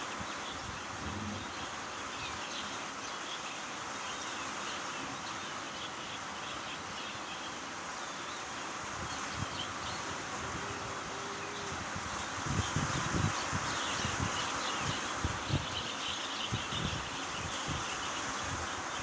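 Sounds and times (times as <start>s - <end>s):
rain hissing: 0.0s - 19.0s
small birds chirping: 0.0s - 19.0s.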